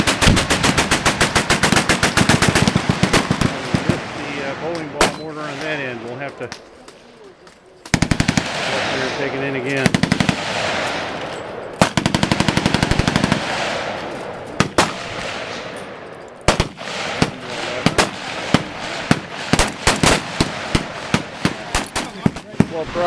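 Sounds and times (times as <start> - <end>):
scattered gunshots: 0.0 - 6.1, 7.9 - 23.0.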